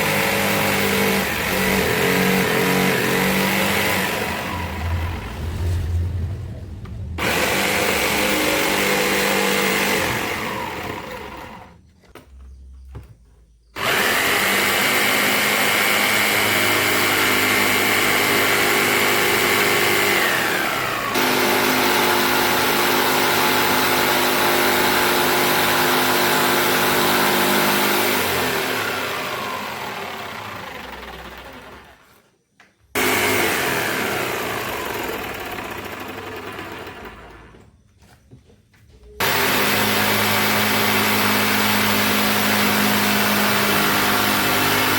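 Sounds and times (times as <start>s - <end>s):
power tool motor whining: 0.0s - 5.7s, 7.2s - 12.2s, 13.8s - 32.2s, 33.0s - 37.7s, 39.2s - 44.9s.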